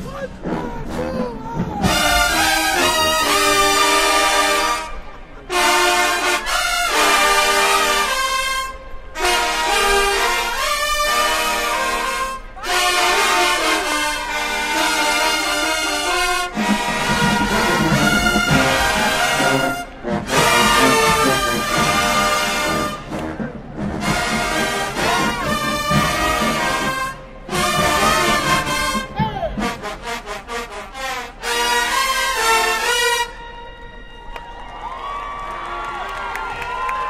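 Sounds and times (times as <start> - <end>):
marching band playing brass music: 0.0 - 34.3.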